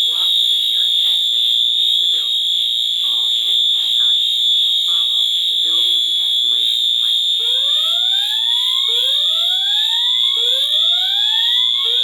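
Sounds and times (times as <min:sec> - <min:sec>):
fire alarm whoop tone: 0:00.0 - 0:12.0
steady high-pitched tone: 0:00.0 - 0:12.0.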